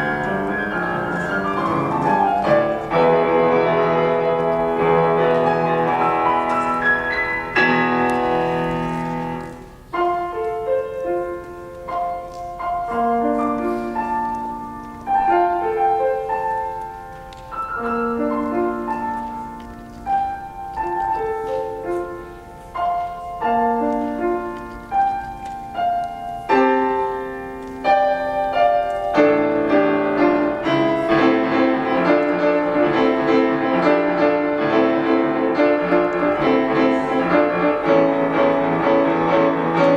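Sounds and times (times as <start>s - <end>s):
solo piano playing: 0.0s - 39.9s.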